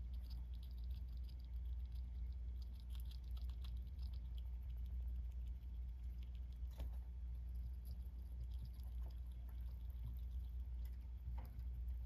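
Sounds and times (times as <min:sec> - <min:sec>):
rat chewing with clicks: 0:00.0 - 0:12.0
steady low hum: 0:00.0 - 0:12.0.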